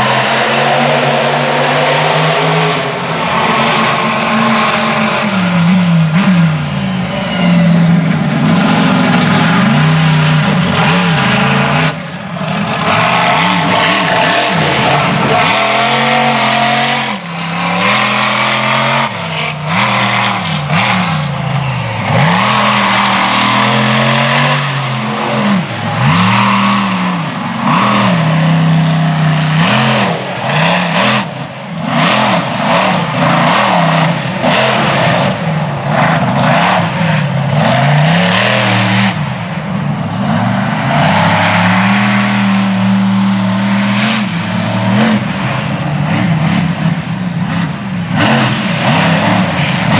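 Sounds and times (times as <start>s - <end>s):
monster truck engine revving: 0.0s - 49.9s.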